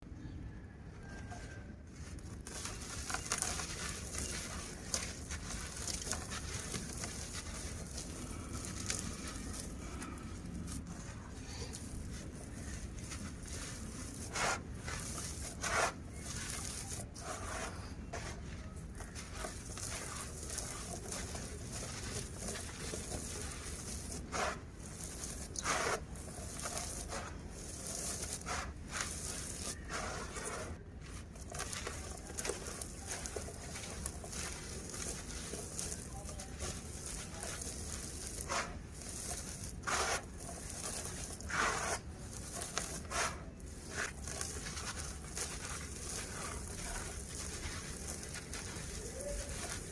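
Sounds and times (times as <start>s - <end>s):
dirt crumbling by hand: 1.1s - 49.9s.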